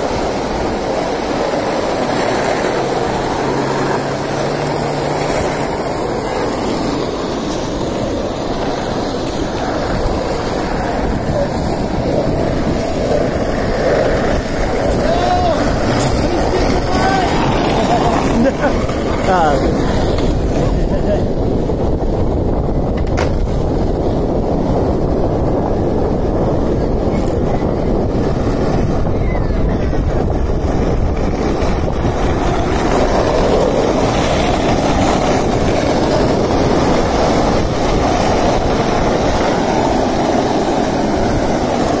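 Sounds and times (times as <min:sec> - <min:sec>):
skateboard wheels rolling on asphalt: 0:00.0 - 0:42.0
wind buffeting microphone: 0:00.0 - 0:42.0.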